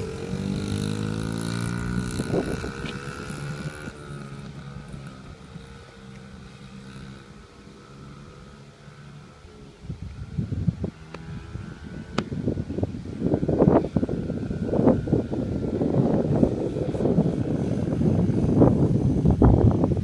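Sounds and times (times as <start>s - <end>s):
dirt bike engine passing: 0.0s - 20.0s.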